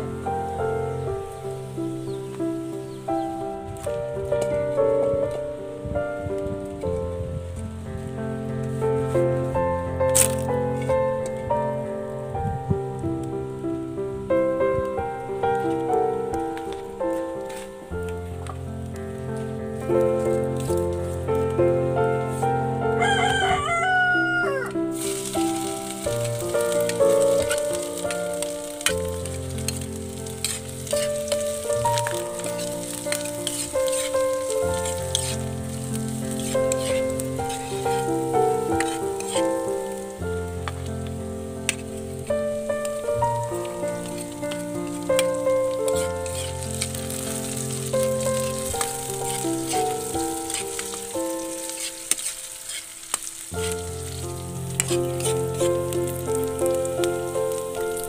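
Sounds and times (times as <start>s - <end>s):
background music of held notes: 0.0s - 58.0s
food sizzling and crackling: 0.0s - 58.0s.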